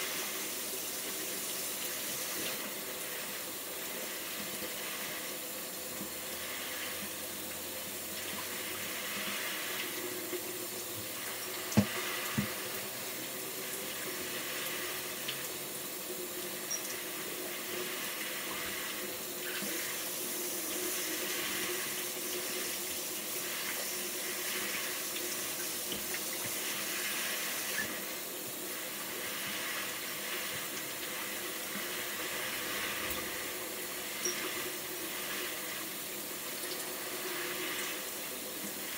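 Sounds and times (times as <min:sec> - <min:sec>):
tap water pouring into basin: 0:00.0 - 0:38.9.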